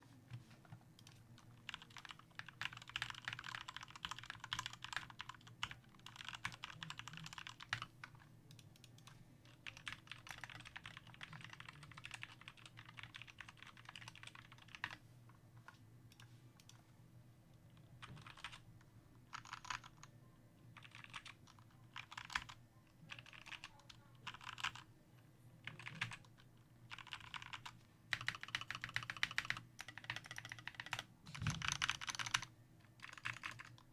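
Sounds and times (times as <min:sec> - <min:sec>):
mechanical keyboard typing: 0:01.0 - 0:15.0, 0:18.0 - 0:18.6, 0:19.3 - 0:20.1, 0:20.8 - 0:24.9, 0:25.6 - 0:33.9.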